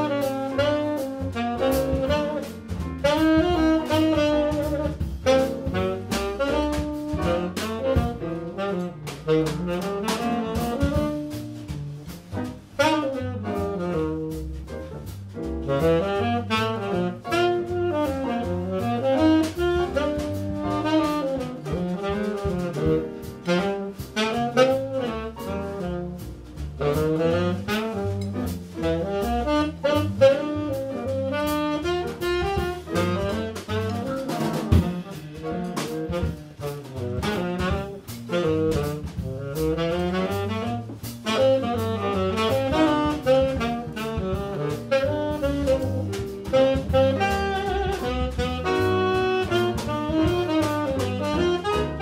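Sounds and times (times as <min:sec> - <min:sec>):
saxophone melody: 0:00.0 - 0:11.8, 0:12.4 - 0:14.7, 0:15.6 - 0:52.0
drum kit with cymbals: 0:00.0 - 0:52.0
piano: 0:00.0 - 0:52.0
walking double bass: 0:00.0 - 0:52.0.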